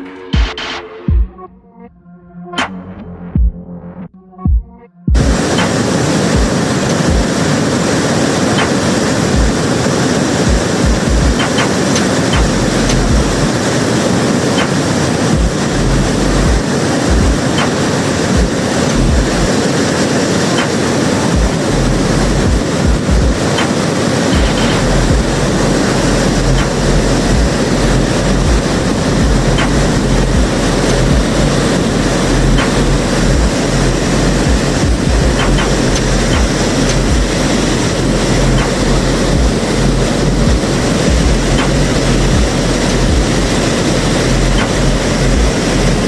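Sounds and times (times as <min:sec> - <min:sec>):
waterfall rushing: 0:05.2 - 0:46.0.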